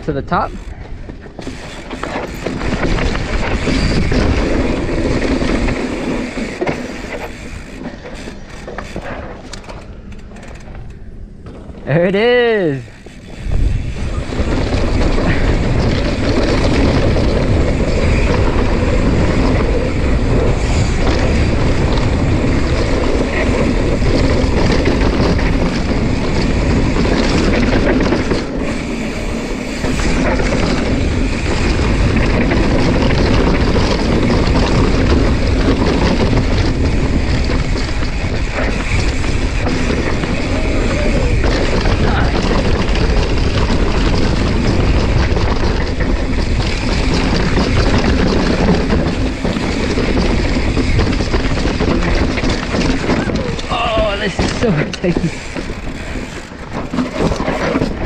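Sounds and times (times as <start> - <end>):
bike tyres on dirt trail: 0.0 - 58.0
wind buffeting microphone: 0.0 - 58.0.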